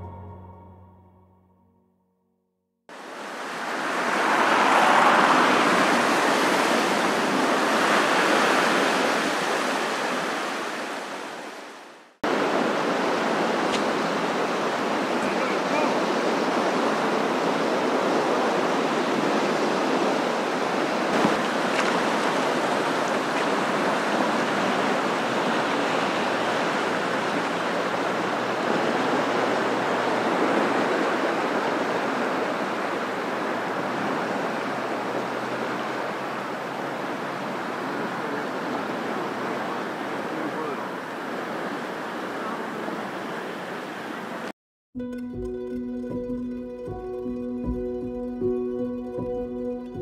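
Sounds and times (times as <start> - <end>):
river rushing in fast flow: 2.9 - 44.5.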